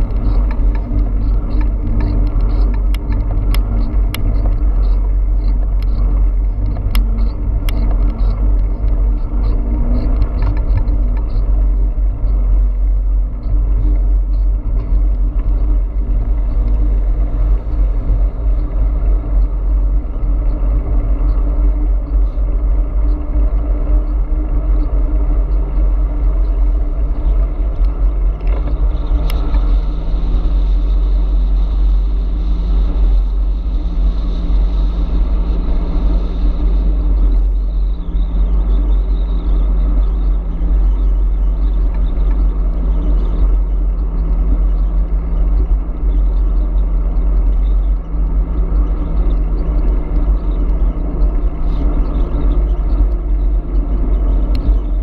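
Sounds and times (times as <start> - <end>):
steady hum: 0.0 - 55.0
wind rumble on microphone: 0.0 - 55.0.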